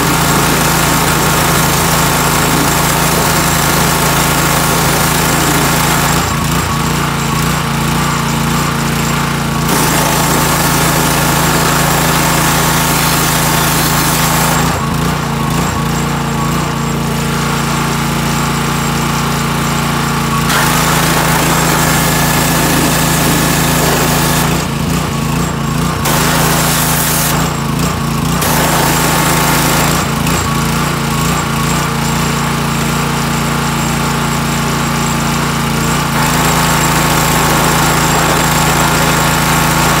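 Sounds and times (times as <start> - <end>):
pressure washer engine running: 0.0 - 40.0.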